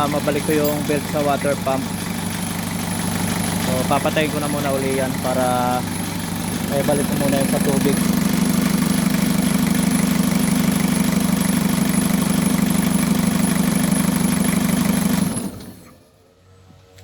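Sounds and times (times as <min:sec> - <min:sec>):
diesel engine idling: 0:00.0 - 0:15.8
engine shutting off: 0:00.0 - 0:16.2.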